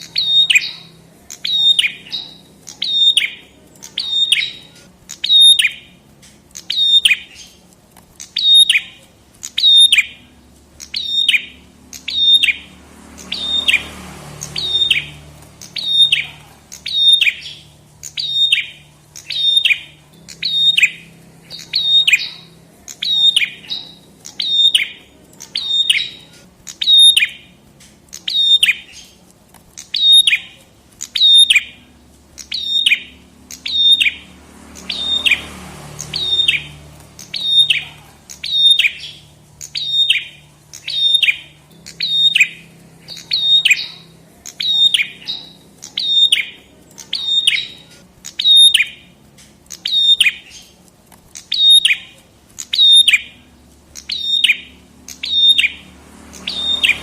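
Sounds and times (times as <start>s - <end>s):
bird calling high chirps: 0.0s - 57.0s.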